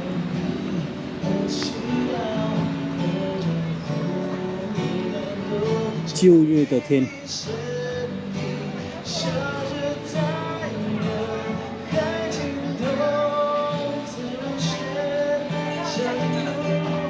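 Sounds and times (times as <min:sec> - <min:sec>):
person singing: 0:00.0 - 0:17.0
strummed acoustic guitar: 0:00.0 - 0:17.0.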